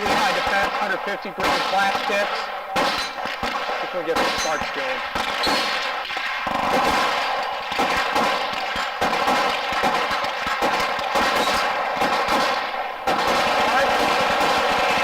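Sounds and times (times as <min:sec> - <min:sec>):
gunshots: 0:00.0 - 0:15.0.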